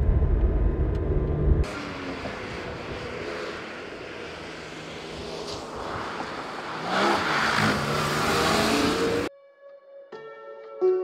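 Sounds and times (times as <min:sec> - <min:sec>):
car engine accelerating: 0:00.0 - 0:09.3
road and wind noise: 0:00.0 - 0:09.3.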